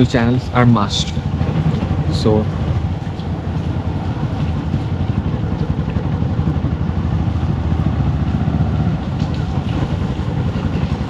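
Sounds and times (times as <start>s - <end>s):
motorcycle engine running: 0.0s - 11.0s
road noise: 0.0s - 11.0s
wind noise: 0.0s - 11.0s.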